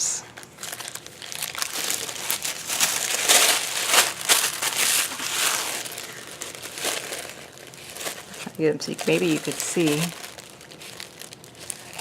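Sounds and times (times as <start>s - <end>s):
packaging crinkling: 0.2s - 12.0s.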